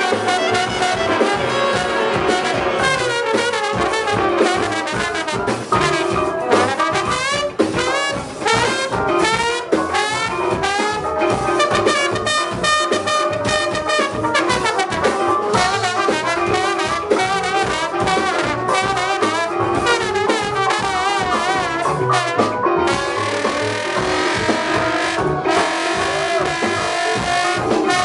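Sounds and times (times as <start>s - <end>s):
sustained horn-like ensemble notes: 0.0s - 28.0s.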